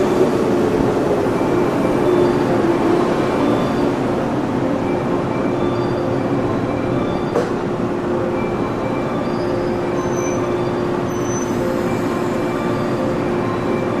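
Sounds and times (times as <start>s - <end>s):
electric train pulling out: 0.0s - 14.0s.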